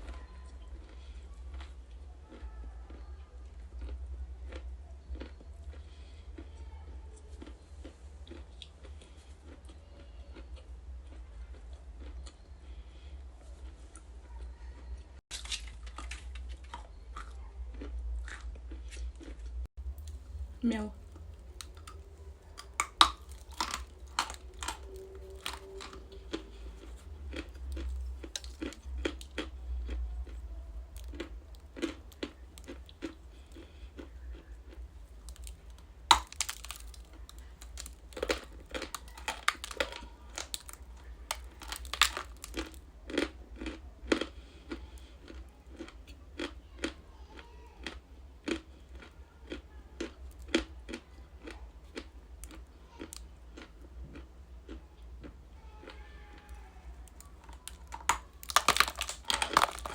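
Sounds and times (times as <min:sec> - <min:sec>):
low steady hum: 0:00.0 - 0:59.9
chalk crunching when chewed: 0:03.6 - 0:06.5, 0:07.3 - 0:59.9.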